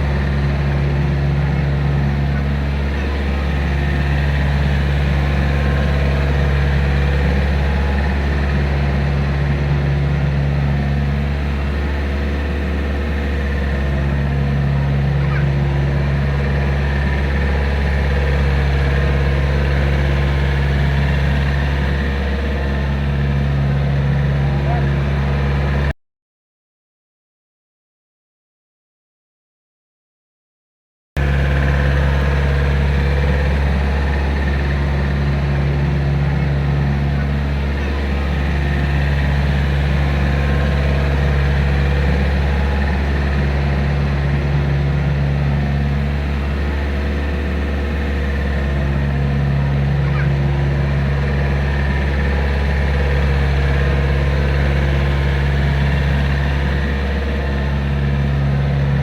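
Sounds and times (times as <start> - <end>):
excavator diesel engine running: 0.0 - 25.9, 31.2 - 59.0.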